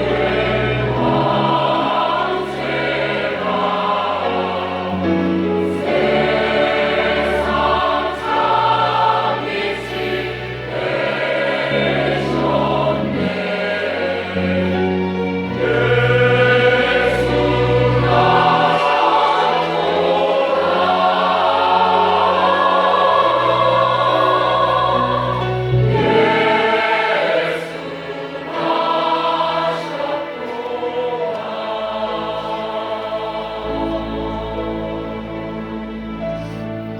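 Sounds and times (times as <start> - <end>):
choir singing: 0.0 - 36.9.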